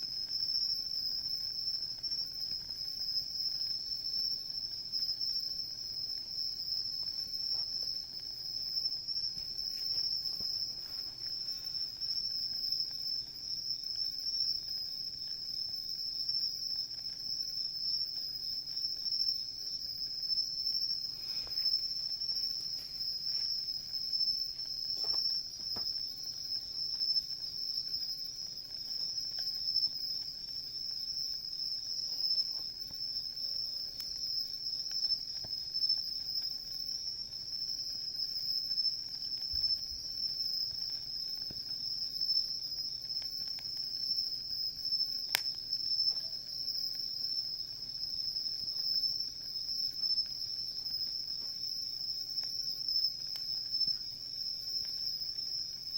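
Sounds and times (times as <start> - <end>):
campfire popping: 0.0 - 55.9
night insects chirring: 0.0 - 55.9.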